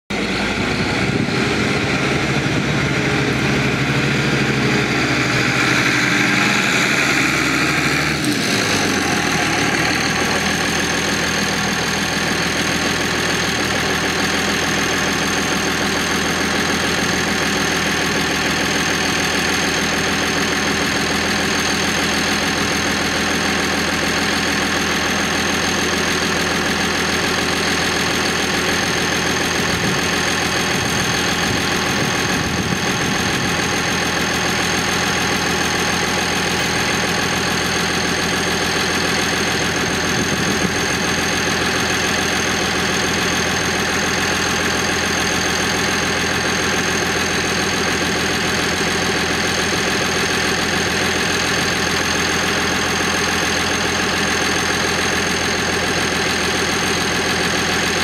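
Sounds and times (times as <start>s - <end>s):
diesel tractor engine running: 0.1s - 58.0s.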